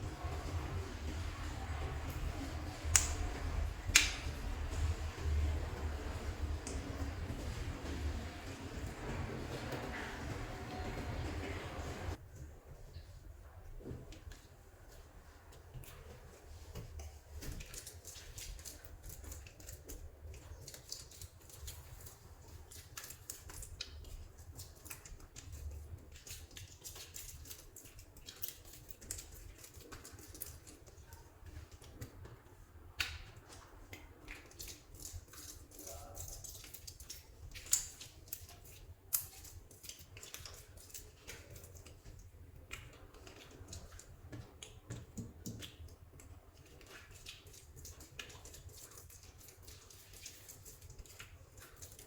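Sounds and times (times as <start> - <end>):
clay crackling by hand: 0.0 - 13.1, 13.8 - 52.0.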